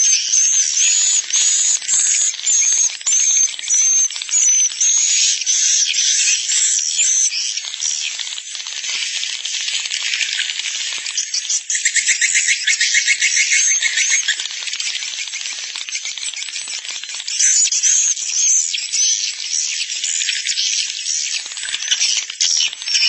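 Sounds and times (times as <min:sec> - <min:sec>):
swiftlets twittering and rattling: 0:00.0 - 0:23.0.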